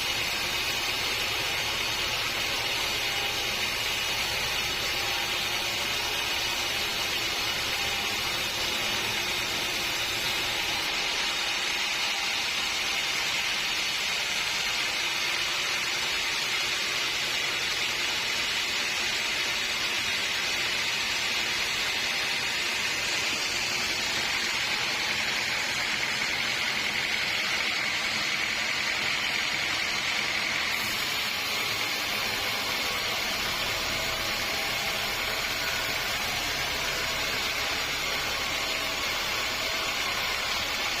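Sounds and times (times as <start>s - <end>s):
sawmill saw cutting log: 0.0s - 41.0s.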